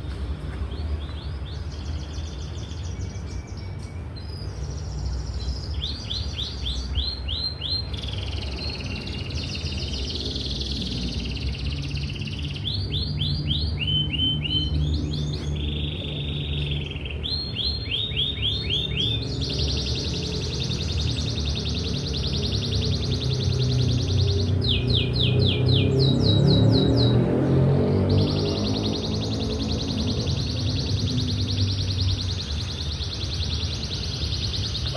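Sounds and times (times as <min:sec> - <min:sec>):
canary singing trills: 0:00.7 - 0:34.9.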